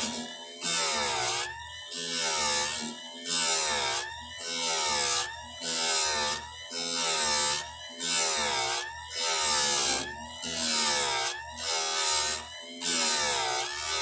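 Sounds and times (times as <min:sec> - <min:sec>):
grinder grinding chain tooth: 0:00.0 - 0:14.0.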